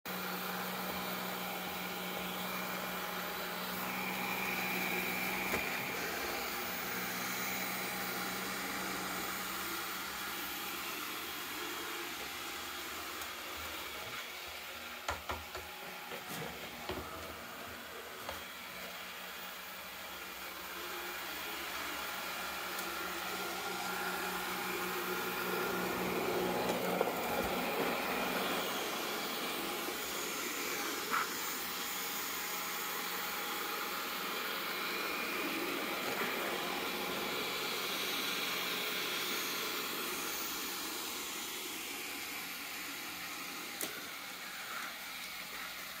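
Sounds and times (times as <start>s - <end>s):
robot vacuum cleaner whirring: 0.1s - 46.0s.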